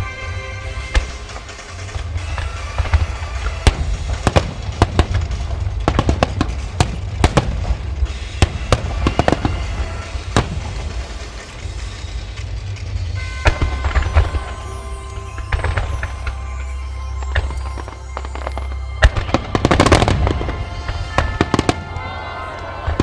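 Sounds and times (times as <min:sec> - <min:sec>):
deep rumble: 0:00.0 - 0:23.0
fireworks shells bursting: 0:00.0 - 0:23.0
music playing: 0:00.0 - 0:23.0.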